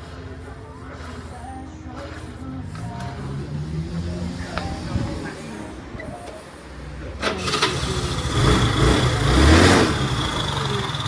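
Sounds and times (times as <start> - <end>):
scooter engine revving and idling: 0.0 - 11.0.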